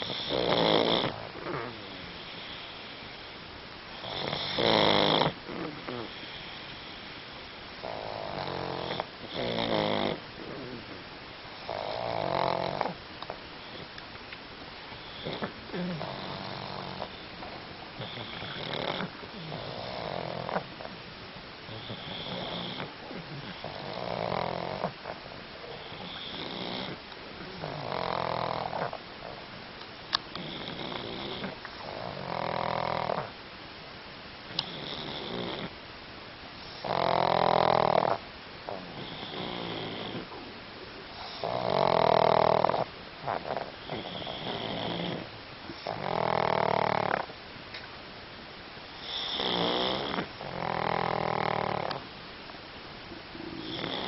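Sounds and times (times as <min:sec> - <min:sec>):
dog snoring: 0:00.0 - 0:03.3, 0:03.9 - 0:07.2, 0:07.8 - 0:13.9, 0:15.0 - 0:21.0, 0:21.7 - 0:29.5, 0:30.3 - 0:33.4, 0:34.5 - 0:35.8, 0:36.6 - 0:40.5, 0:41.1 - 0:47.3, 0:49.0 - 0:52.0, 0:53.3 - 0:54.0.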